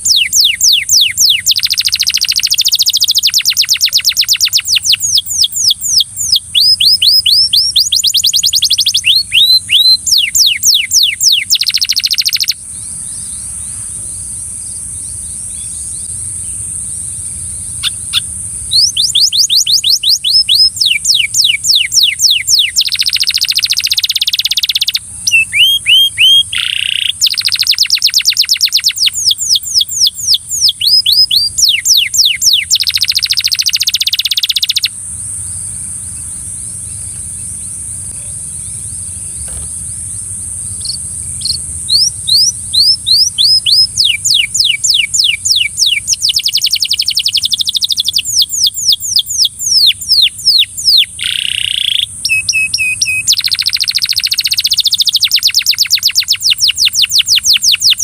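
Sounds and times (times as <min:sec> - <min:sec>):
canary singing trills: 0:00.0 - 0:58.0
steady high hiss: 0:00.0 - 0:58.0.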